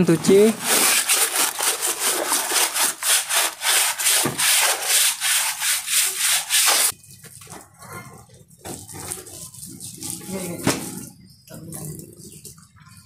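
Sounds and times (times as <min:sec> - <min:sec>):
scrubbing wet plastic: 0:00.0 - 0:07.0, 0:08.7 - 0:13.0.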